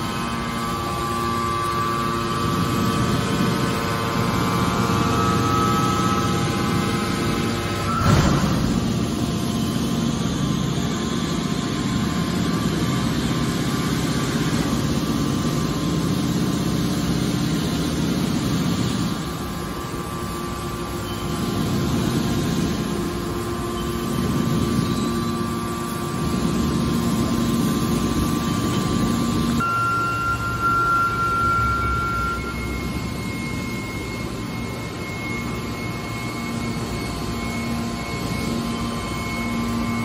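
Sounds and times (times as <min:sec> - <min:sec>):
hydraulic baler humming: 0:00.0 - 0:40.0.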